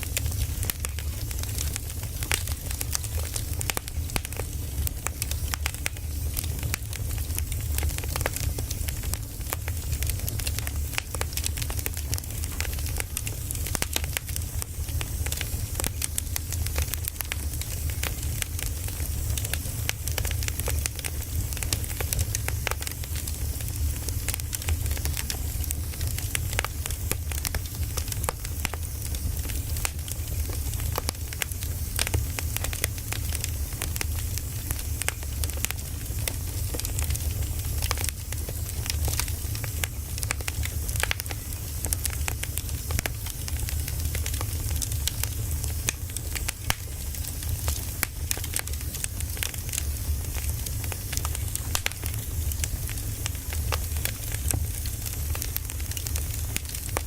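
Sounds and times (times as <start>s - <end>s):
low rumble of flame: 0.0s - 57.0s
wood fire crackling and popping: 0.0s - 57.0s.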